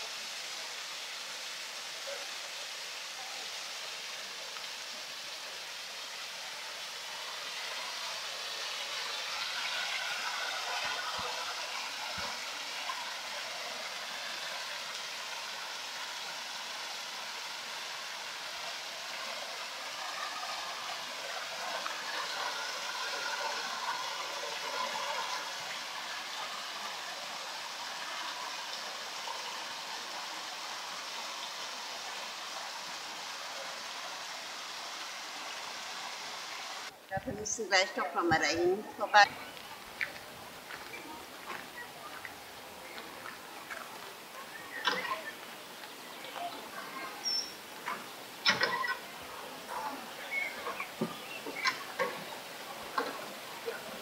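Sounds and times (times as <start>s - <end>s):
water rushing through sluice: 0.0s - 54.0s.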